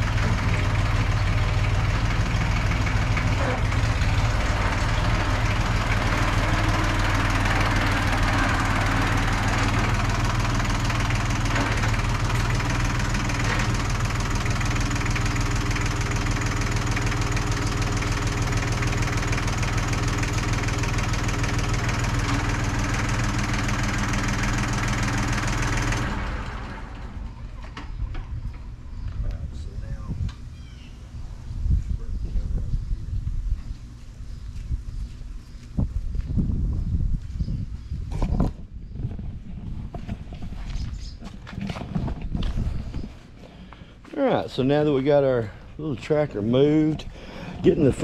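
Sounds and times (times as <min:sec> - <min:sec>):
tractor diesel engine running: 0:00.0 - 0:31.5, 0:32.1 - 0:48.0.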